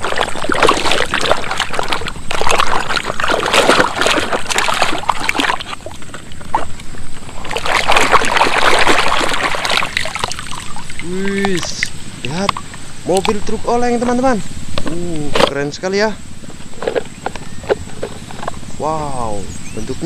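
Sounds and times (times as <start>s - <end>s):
water splashing and sloshing: 0.0s - 18.8s.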